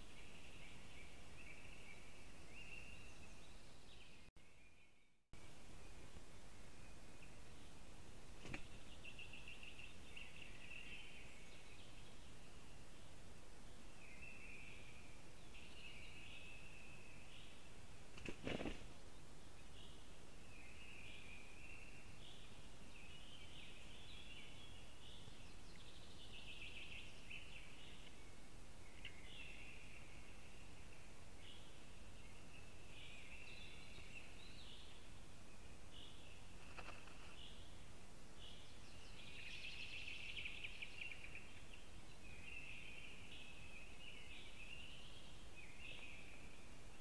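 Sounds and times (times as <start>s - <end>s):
low background hiss: 0.0s - 47.0s
low background noise: 0.0s - 47.0s
songbirds singing: 0.0s - 47.0s.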